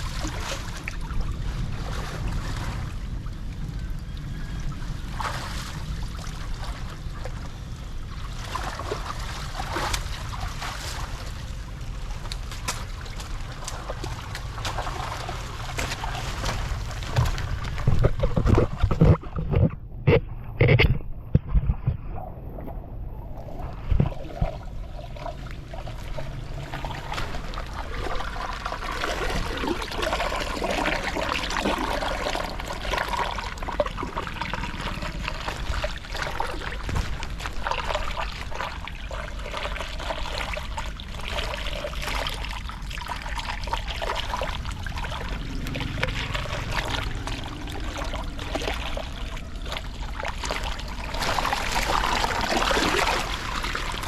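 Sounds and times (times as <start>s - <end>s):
water pouring and trickling: 0.0s - 19.2s, 23.6s - 54.0s.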